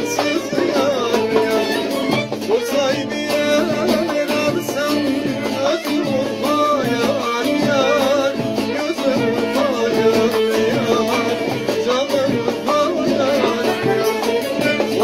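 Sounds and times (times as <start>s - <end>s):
man singing folk song: 0.0s - 15.0s
plucked long-necked lute: 0.0s - 15.0s.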